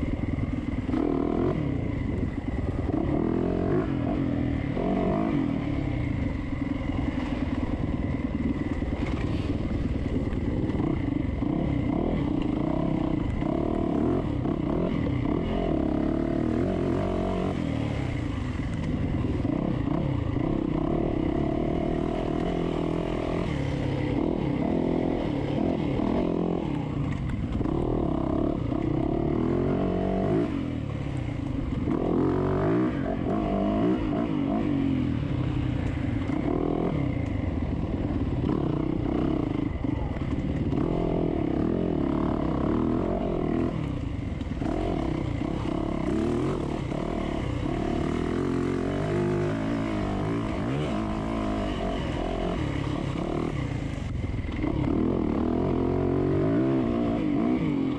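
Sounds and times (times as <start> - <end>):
dirt bike engine revving: 0.0 - 18.7, 19.3 - 30.9, 31.7 - 57.9.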